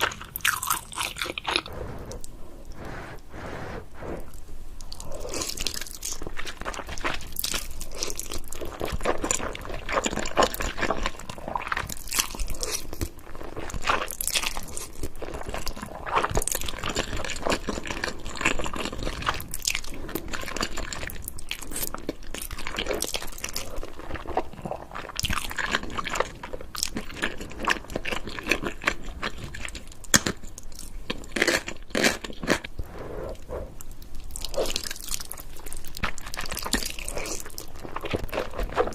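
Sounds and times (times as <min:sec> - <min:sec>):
person chewing noodles: 0:00.0 - 0:38.9.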